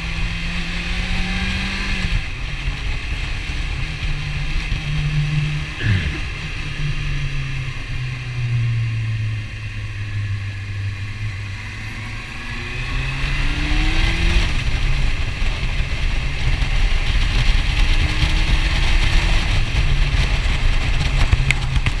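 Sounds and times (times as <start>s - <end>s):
motorcycle engine revving: 0.0s - 22.0s
wind rushing over microphone: 0.0s - 22.0s.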